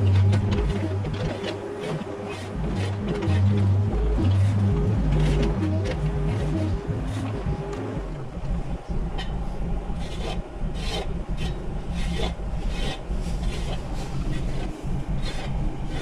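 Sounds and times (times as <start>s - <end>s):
mini excavator engine running: 0.0s - 16.0s.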